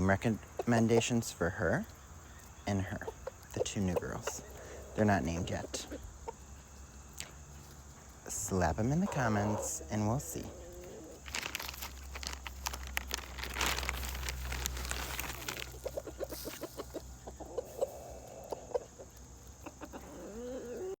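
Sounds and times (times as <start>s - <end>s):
hens clucking: 0.0s - 21.0s
hens pecking on concrete: 0.0s - 21.0s.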